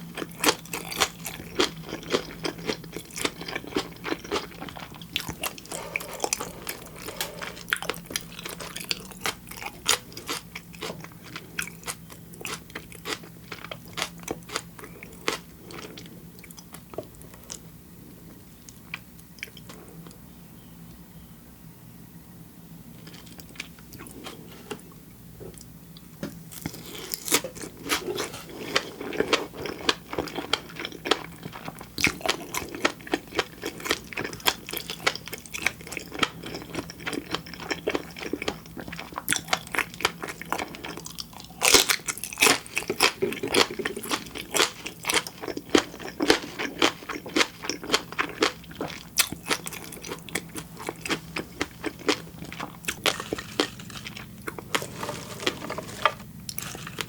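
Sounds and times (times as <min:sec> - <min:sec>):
chewing with crisp pops: 0:00.0 - 0:20.2, 0:23.0 - 0:54.9.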